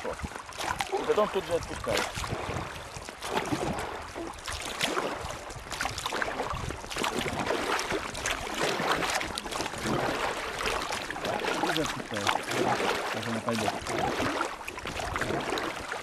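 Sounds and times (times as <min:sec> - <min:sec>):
river water running over stones: 0:00.0 - 0:16.0
water splashing: 0:00.0 - 0:16.0.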